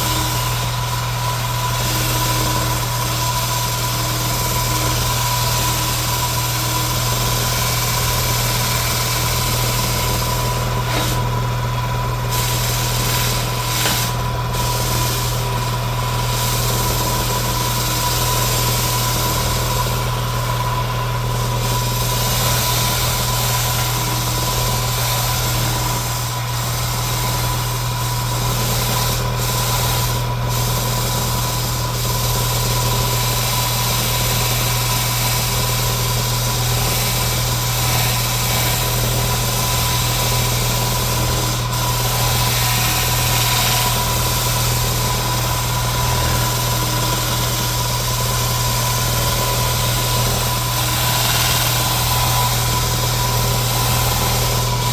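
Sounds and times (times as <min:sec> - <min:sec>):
power sander running: 0:00.0 - 0:54.9.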